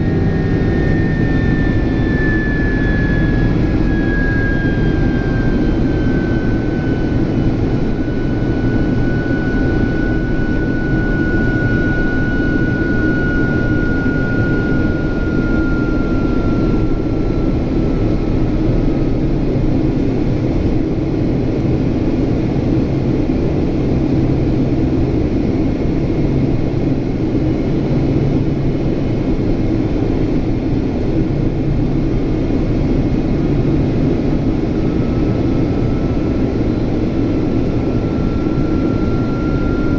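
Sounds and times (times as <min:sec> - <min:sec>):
high engine whine: 0:00.0 - 0:39.9
jet engines roaring in flight: 0:00.0 - 0:39.9
low hum: 0:00.0 - 0:39.9.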